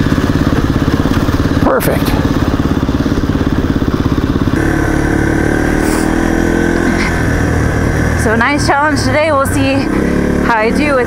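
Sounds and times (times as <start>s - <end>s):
dirt bike engine pulsing: 0.0s - 11.0s
dirt bike engine whine: 0.0s - 11.0s.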